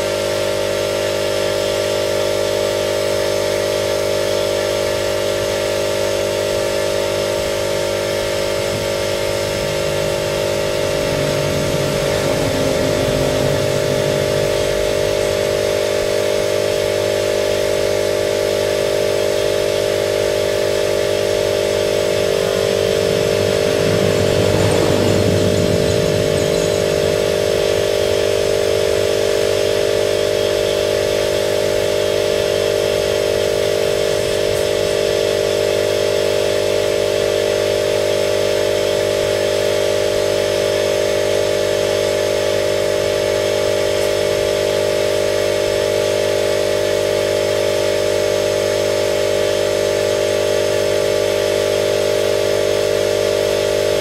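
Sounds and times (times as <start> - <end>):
motor humming and whining: 0.0 - 54.0.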